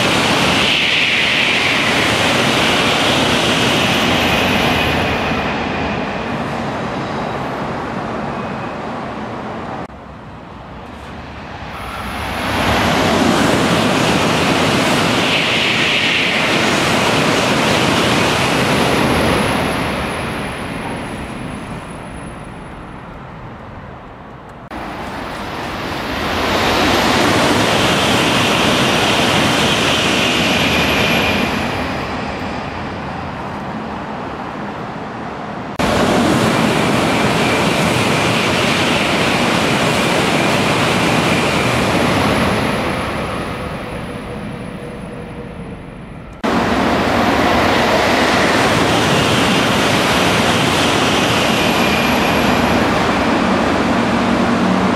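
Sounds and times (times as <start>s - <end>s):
high-speed train rushing roar: 0.0s - 54.9s.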